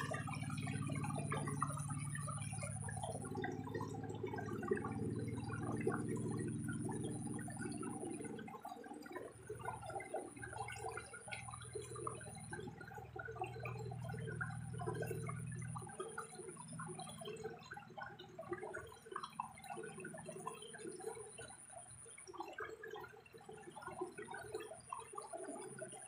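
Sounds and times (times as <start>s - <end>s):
low steady hum: 0.0s - 22.1s
water sloshing and gurgling: 0.0s - 26.0s.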